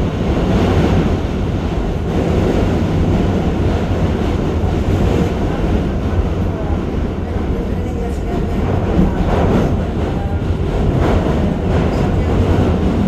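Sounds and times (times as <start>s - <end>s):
subway train rumbling on tracks: 0.0s - 13.0s.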